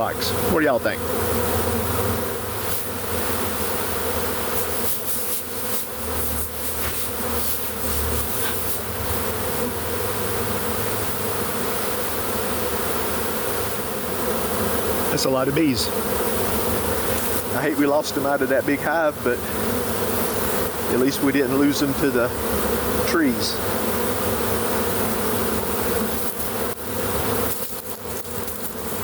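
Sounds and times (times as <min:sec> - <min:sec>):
bee swarm buzzing: 0:00.0 - 0:29.0.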